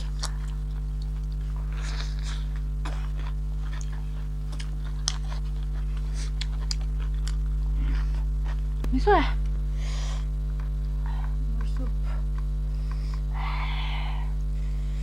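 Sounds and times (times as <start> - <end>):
people chewing: 0.0 - 13.4
steady low hum: 0.0 - 15.0.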